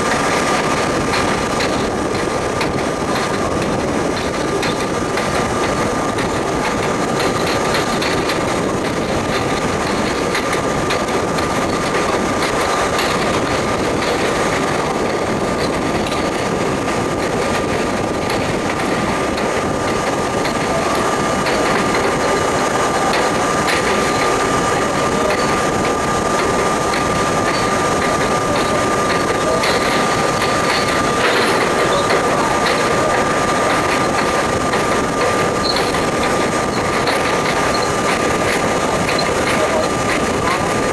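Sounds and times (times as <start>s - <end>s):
constant high hum: 0.0s - 40.9s
train wheels rumbling on rail: 0.0s - 40.9s.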